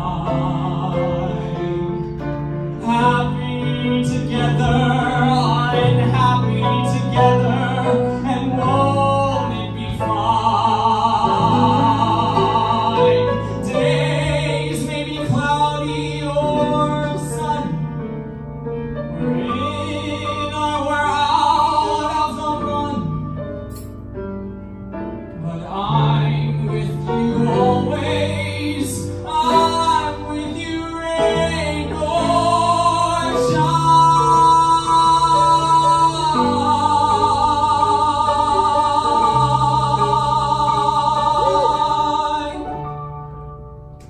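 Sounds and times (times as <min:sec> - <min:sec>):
man singing a slow ballad: 0:00.0 - 0:18.1, 0:19.2 - 0:23.9, 0:25.3 - 0:40.1
grand piano: 0:00.0 - 0:44.0.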